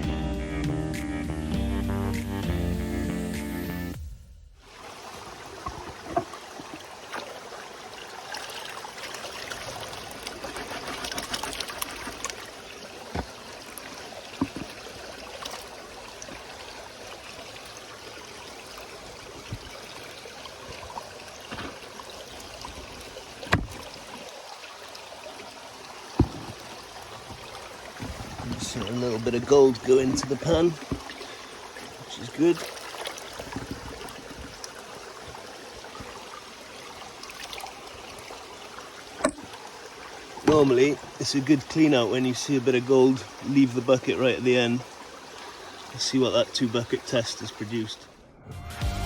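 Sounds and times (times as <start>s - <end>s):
river water flowing: 4.6s - 48.4s.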